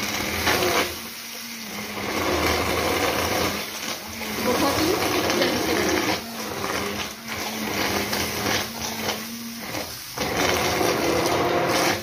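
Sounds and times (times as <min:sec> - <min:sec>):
immersion blender churning paste: 0:00.0 - 0:12.0.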